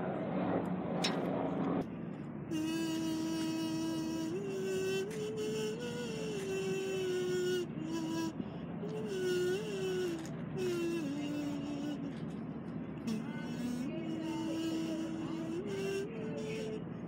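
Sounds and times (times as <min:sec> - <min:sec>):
wind instrument long held notes: 0:02.5 - 0:12.4, 0:13.0 - 0:17.0.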